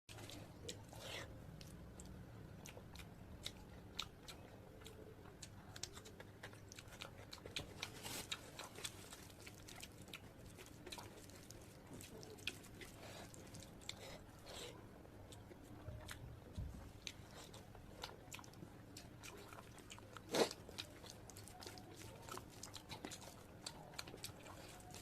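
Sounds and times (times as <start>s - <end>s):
chewing and biting food: 0.1s - 25.0s.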